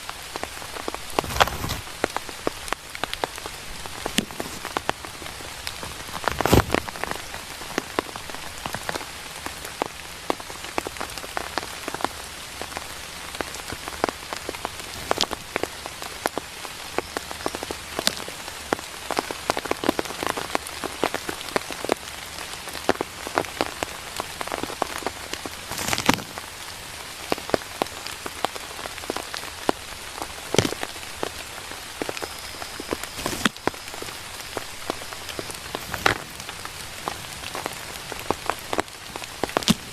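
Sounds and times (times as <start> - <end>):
raindrops tapping: 0.0 - 39.9.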